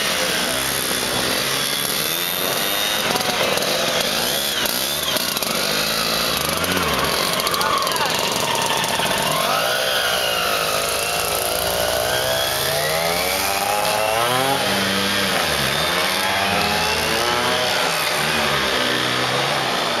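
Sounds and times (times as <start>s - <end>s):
scooter engines buzzing: 0.0s - 20.0s.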